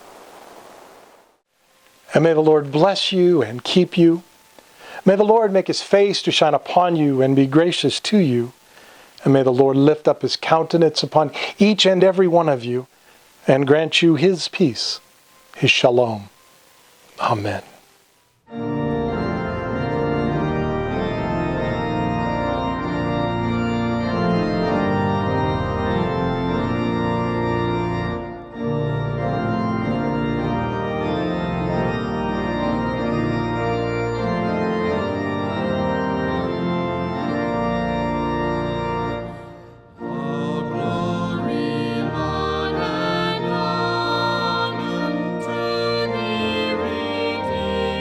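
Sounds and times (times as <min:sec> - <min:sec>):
organ playing sustained chords: 0:01.9 - 0:08.6, 0:09.2 - 0:12.8, 0:13.5 - 0:17.7, 0:18.5 - 0:48.0.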